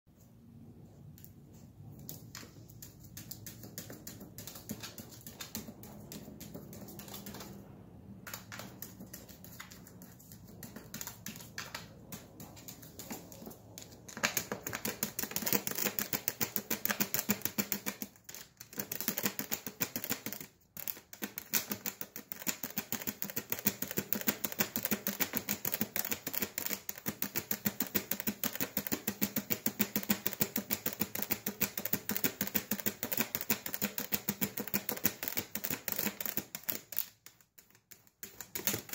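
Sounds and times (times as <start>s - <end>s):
puppy claws clicking on plastic: 2.0s - 38.9s.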